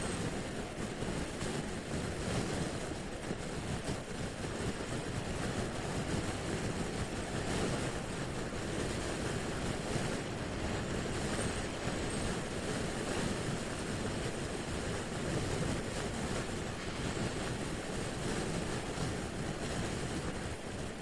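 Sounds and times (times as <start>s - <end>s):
road and engine noise: 0.0s - 21.0s
wind buffeting microphone: 0.0s - 21.0s.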